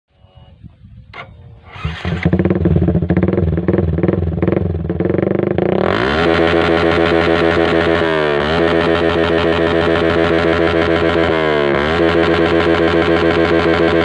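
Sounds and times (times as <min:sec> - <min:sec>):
motorcycle engine revving: 0:01.2 - 0:14.0.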